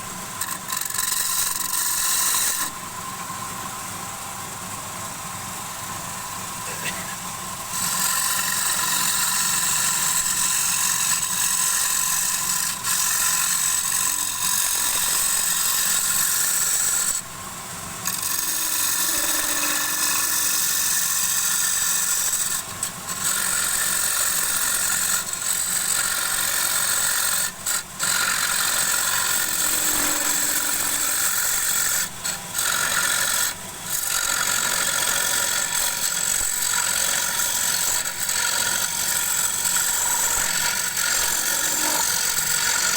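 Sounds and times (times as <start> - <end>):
turning tool scraping wood: 0.0 - 2.8, 6.7 - 17.2, 18.0 - 42.9
lathe motor hum: 6.5 - 17.2, 18.0 - 33.5, 34.2 - 42.9.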